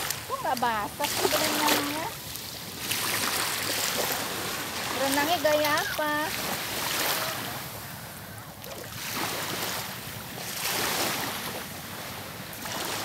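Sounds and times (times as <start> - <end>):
sea waves washing onto beach: 0.0 - 13.0.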